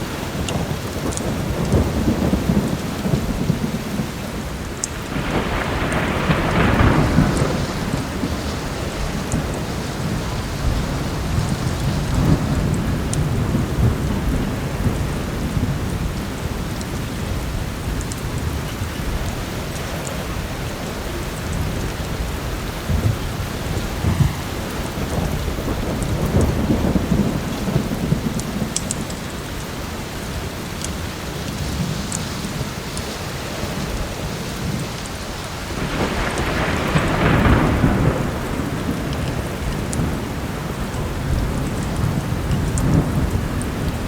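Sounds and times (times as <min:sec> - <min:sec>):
heavy rain pouring: 0:00.0 - 0:44.0
low thunder rumble: 0:00.0 - 0:44.0
wood fire crackling: 0:00.0 - 0:44.0.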